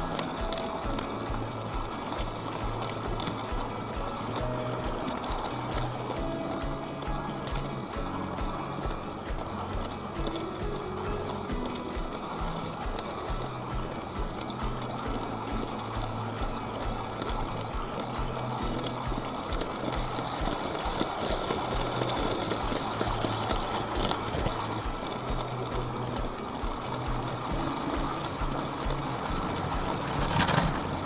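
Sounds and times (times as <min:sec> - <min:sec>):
toy train rumbling on track: 0:00.0 - 0:31.0
wheels clicking over track joints: 0:00.0 - 0:31.0.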